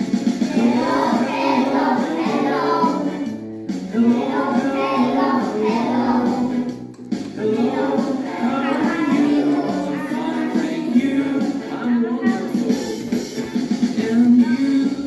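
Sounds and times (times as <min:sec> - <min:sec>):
children singing: 0:00.4 - 0:03.3, 0:03.9 - 0:13.2.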